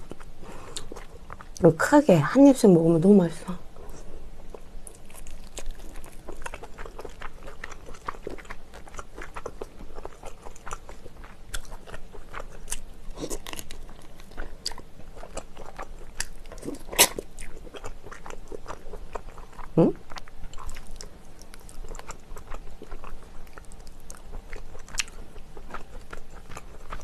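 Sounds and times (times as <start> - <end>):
person chewing food: 0.0 - 1.6, 3.7 - 27.0.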